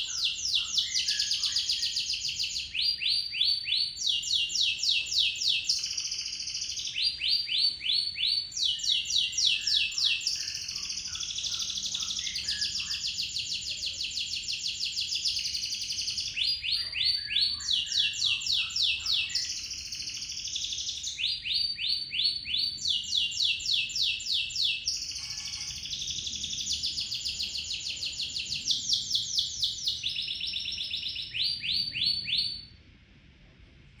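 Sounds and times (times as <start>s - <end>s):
canary singing trills: 0.0s - 32.7s.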